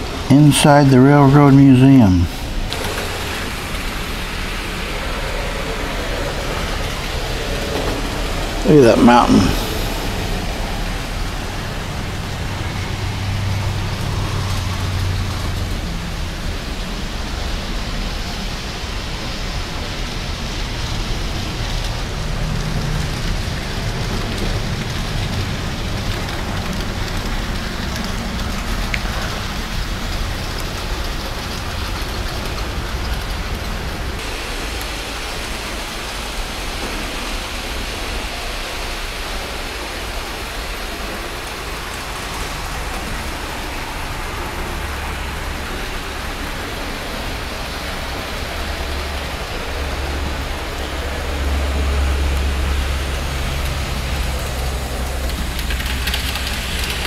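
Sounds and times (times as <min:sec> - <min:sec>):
model trains rumbling: 0:00.0 - 0:57.0.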